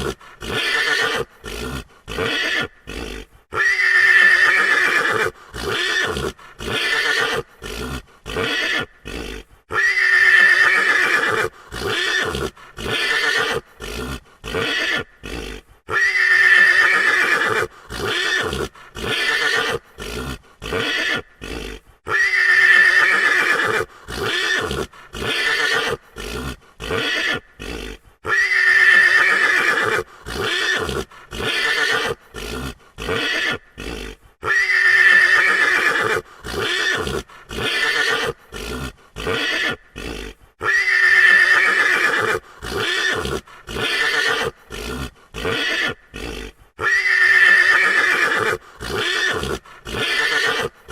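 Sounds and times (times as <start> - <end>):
horse whinnying: 0.0 - 50.8.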